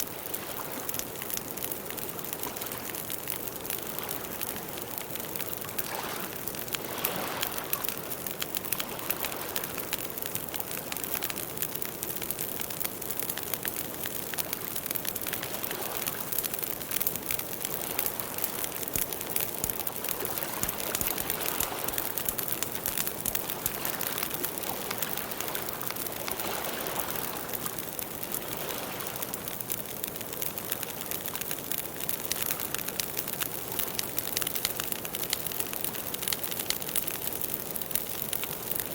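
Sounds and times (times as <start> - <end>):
rushing of flames: 0.0 - 38.9
wood crackling and popping: 0.0 - 38.9.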